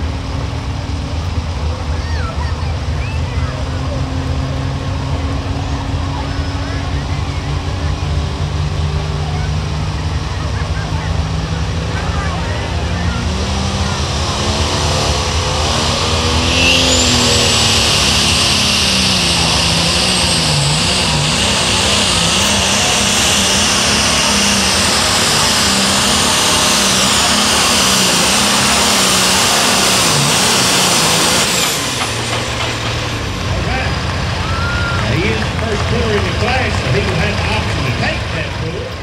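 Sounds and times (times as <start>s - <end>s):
diesel tractor engine at full throttle: 0.0s - 39.0s
high turbo whine: 0.0s - 39.0s.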